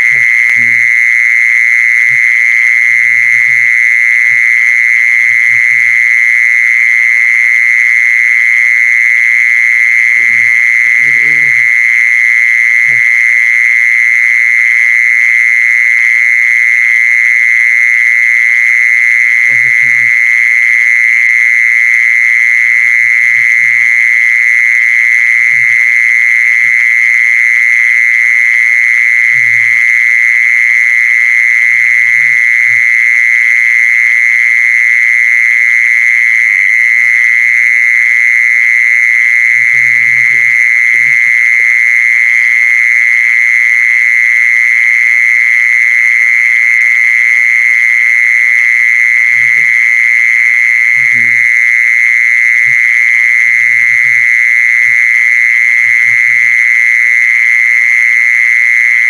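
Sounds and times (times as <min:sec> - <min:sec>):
low croaking calls: 0:00.0 - 0:15.1, 0:18.4 - 0:34.7, 0:35.5 - 0:44.6, 0:47.5 - 0:58.2.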